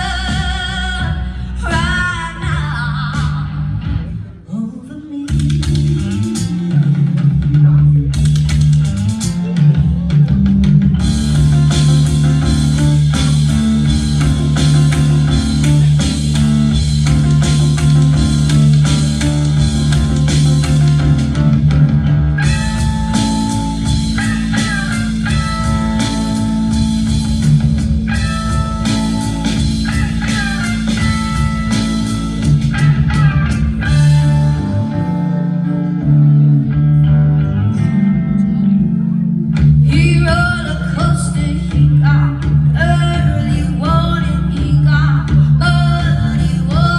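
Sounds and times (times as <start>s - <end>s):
drum kit: 0.0s - 4.4s, 5.3s - 37.0s, 39.4s - 46.9s
bass guitar: 0.0s - 46.9s
guitar: 0.0s - 46.9s
melodic guitar lead line: 6.0s - 46.9s.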